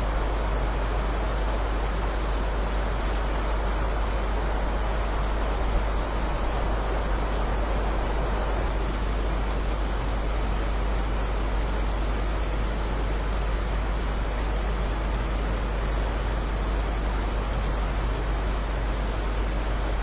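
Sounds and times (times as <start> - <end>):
steady rainfall hiss: 0.0 - 20.0.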